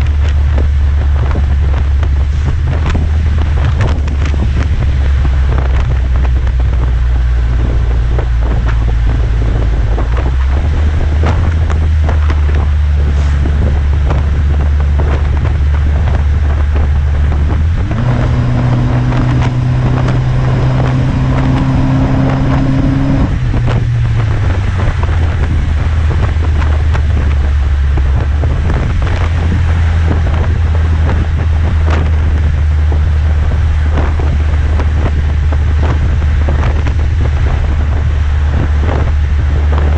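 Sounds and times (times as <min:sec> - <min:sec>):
car engine idling and revving: 0:00.0 - 0:39.9
wind buffeting microphone: 0:00.0 - 0:39.9.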